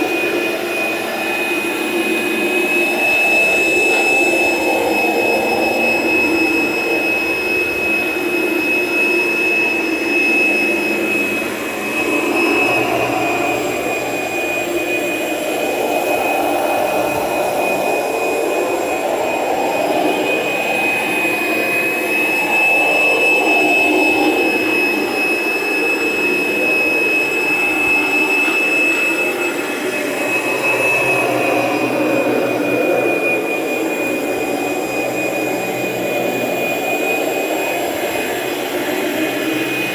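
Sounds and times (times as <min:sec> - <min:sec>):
vacuum motor whine: 0:00.0 - 0:39.9.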